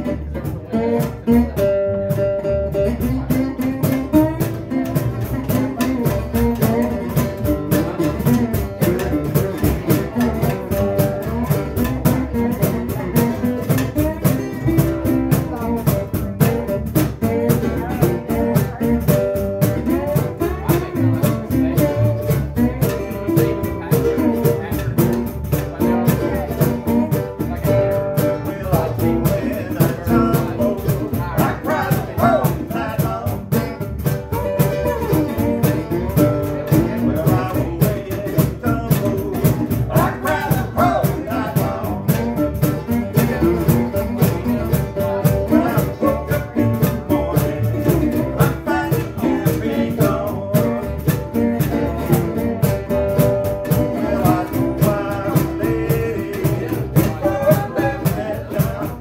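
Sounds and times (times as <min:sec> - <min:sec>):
acoustic guitars: 0:00.0 - 0:59.0
cajon drumming: 0:00.0 - 0:59.0
upright bass: 0:00.0 - 0:59.0.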